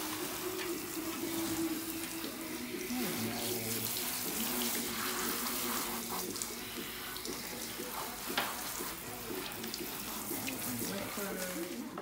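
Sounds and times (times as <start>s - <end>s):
water running from hose: 0.0s - 12.0s
water splashing on dog's coat: 0.0s - 12.0s.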